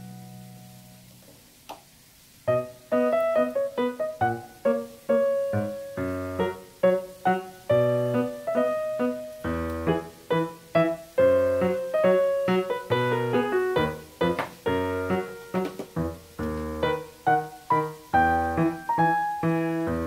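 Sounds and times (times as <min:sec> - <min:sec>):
light piano tune: 0:00.0 - 0:20.0.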